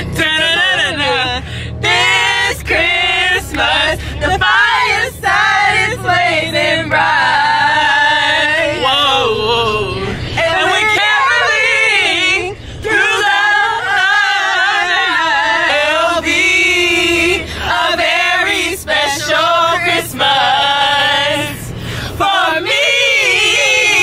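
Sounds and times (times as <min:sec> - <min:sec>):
low steady hum: 0:00.0 - 0:24.0
women singing in unison: 0:00.0 - 0:24.0.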